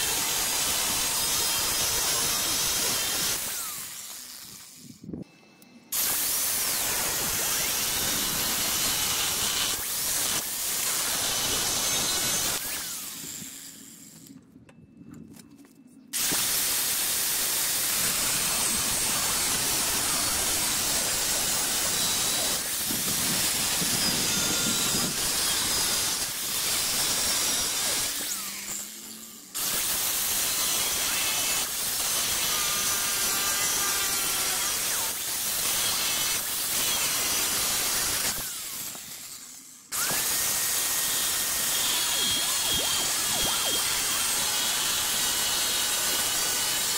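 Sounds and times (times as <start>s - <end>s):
angle grinder cutting steel: 0.0s - 5.1s, 5.9s - 14.3s, 16.2s - 46.9s.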